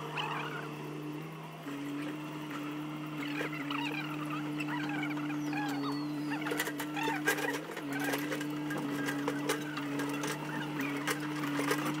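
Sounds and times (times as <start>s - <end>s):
backhoe engine running: 0.0s - 12.0s
birds chirping: 0.0s - 12.0s.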